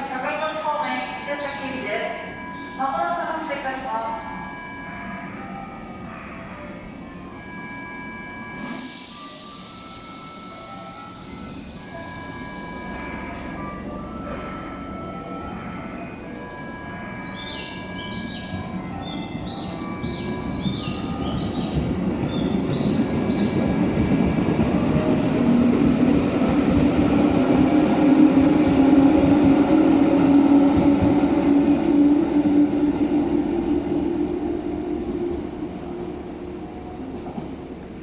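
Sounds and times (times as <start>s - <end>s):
electric train passing: 0.0s - 38.0s.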